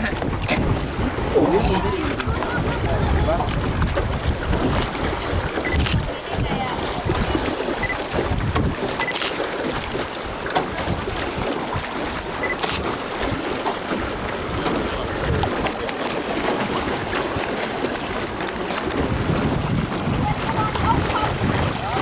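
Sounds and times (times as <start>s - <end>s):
wind on microphone: 0.0s - 15.8s, 16.4s - 22.0s
water splashing around a rowboat: 0.0s - 22.0s.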